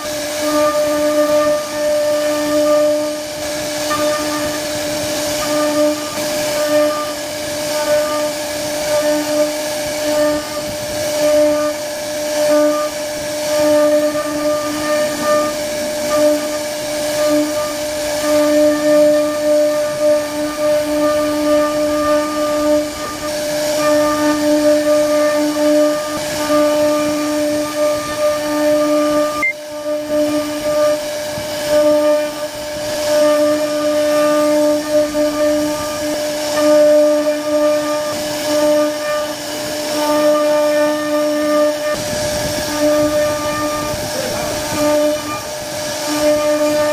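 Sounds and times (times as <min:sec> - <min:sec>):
cnc router spindle whining: 0:00.0 - 0:46.9
router bit carving wood: 0:00.0 - 0:46.9.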